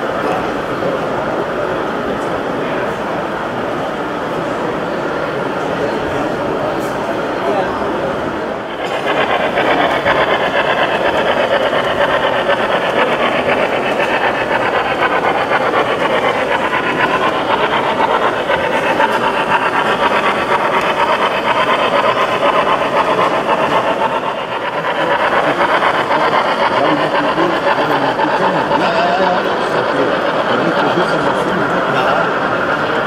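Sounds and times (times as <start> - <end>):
babble of many voices: 0.0 - 33.0
model train running on track: 0.0 - 33.0.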